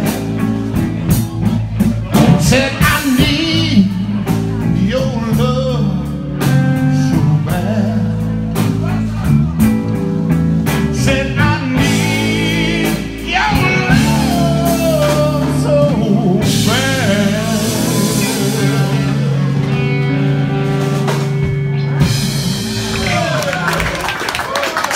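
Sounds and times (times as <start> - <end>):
electric guitar lead bending: 0.0 - 24.1
blues band playing: 0.0 - 24.9.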